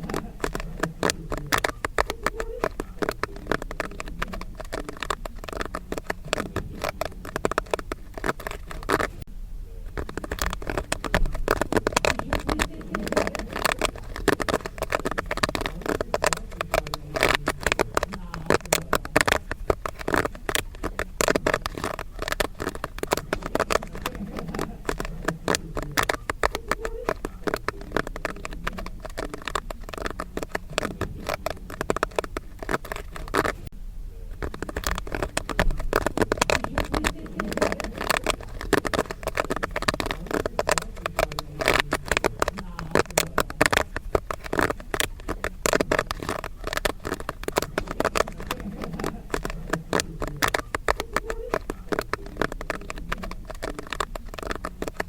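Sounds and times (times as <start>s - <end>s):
popcorn popping: 0.0s - 55.0s.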